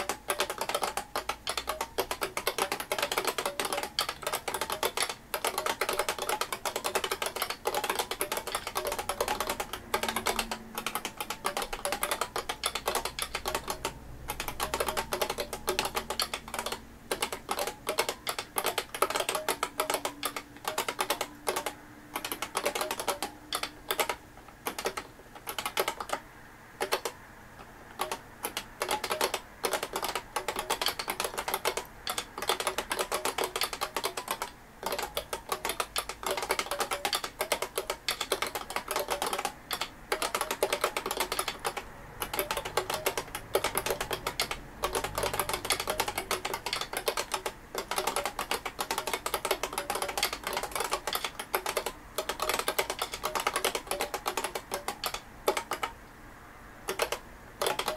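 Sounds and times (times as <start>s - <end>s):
fast keyboard typing: 0.0s - 26.2s, 26.8s - 56.0s, 56.9s - 57.9s.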